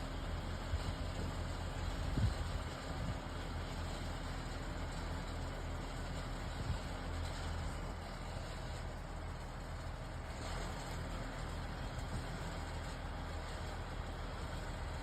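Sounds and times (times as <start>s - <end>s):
low engine rumble with hiss: 0.0s - 15.0s.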